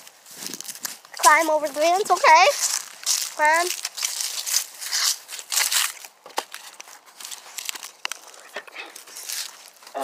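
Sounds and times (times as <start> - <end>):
rustling and crunching scuffs: 0.0 - 10.0.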